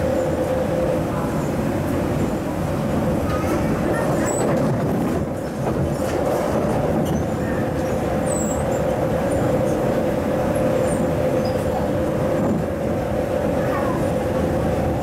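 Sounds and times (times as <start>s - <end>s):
constant train hum: 0.0s - 15.0s
electric train rumbling: 0.0s - 15.0s.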